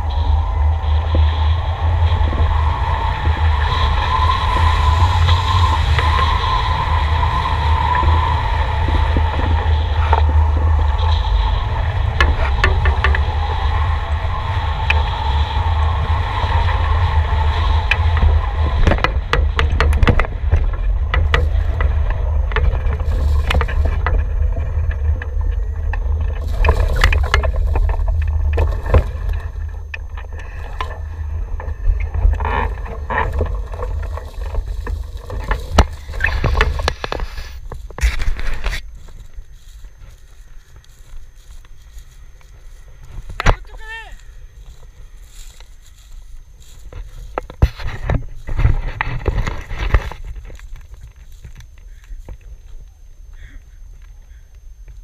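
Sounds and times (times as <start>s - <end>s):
wind rushing over microphone: 0.0s - 51.7s
low rumble: 0.0s - 55.0s.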